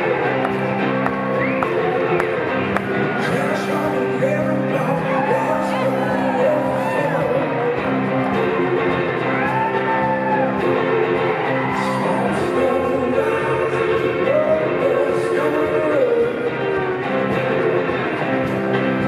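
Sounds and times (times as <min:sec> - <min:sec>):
drums: 0:00.0 - 0:19.0
electric guitars: 0:00.0 - 0:19.0
man singing: 0:02.9 - 0:19.0.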